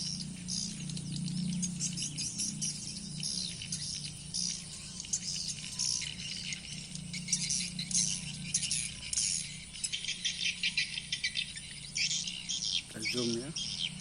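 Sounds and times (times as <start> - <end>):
high twittering bird chirps: 0.0 - 14.0
steady low hum: 0.0 - 14.0.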